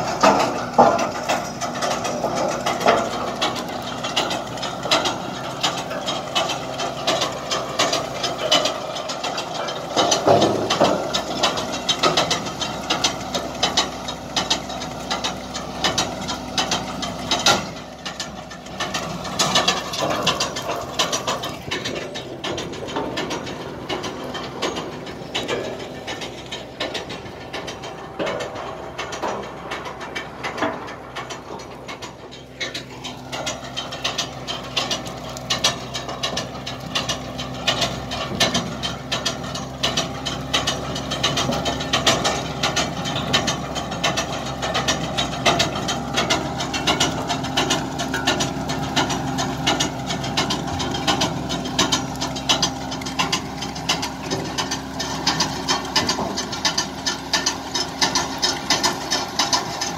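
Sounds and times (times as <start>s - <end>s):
tractor engine hum: 0.0s - 59.9s.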